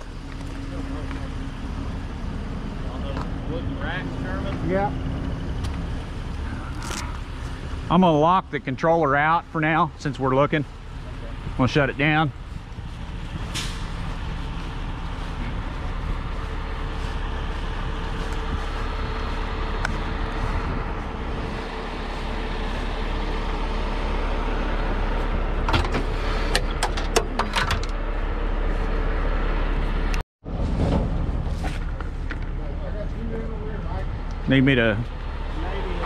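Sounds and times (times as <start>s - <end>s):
diesel engine idling: 0.0s - 30.2s, 31.2s - 36.0s.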